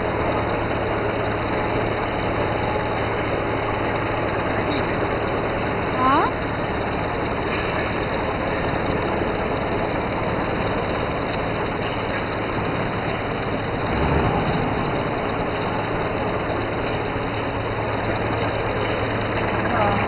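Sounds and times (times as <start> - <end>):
wood shaving mill running: 0.0 - 20.0.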